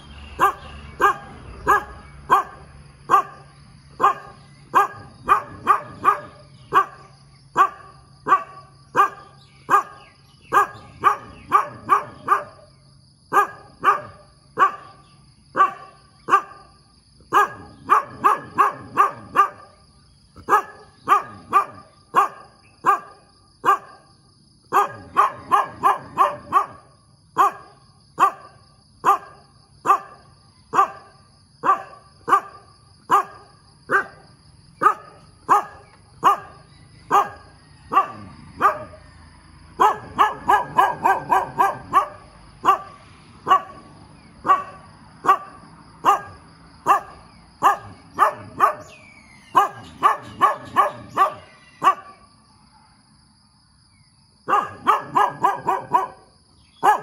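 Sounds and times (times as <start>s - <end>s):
dog barking: 0.4s - 19.8s, 20.4s - 24.1s, 24.7s - 39.1s, 39.8s - 52.2s, 54.4s - 57.0s.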